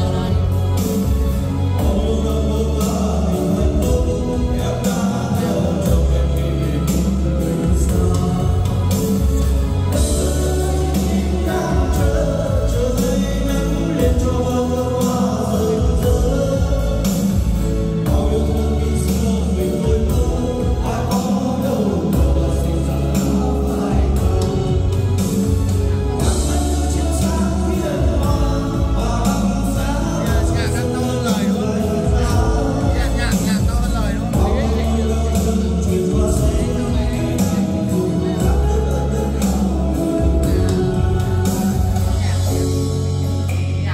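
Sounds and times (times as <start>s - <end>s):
person singing: 0.0s - 43.9s.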